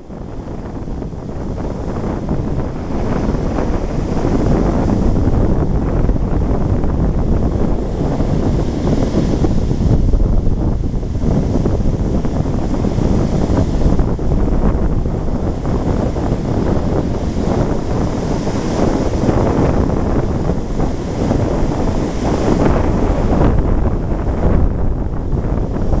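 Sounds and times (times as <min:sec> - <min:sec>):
surf breaking on beach: 0:00.0 - 0:26.0
wind blowing on microphone: 0:00.0 - 0:26.0.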